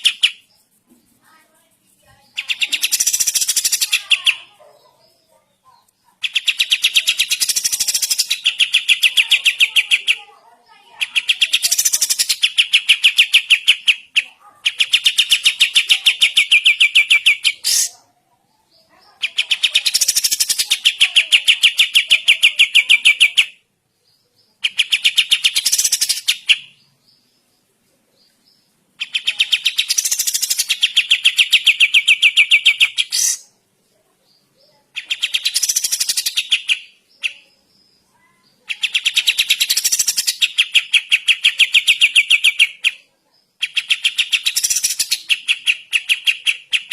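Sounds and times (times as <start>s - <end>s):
songbird singing rapid high notes: 0.0s - 0.8s, 1.8s - 5.3s, 6.1s - 18.0s, 18.9s - 23.6s, 24.5s - 27.3s, 28.4s - 33.6s, 34.6s - 46.9s.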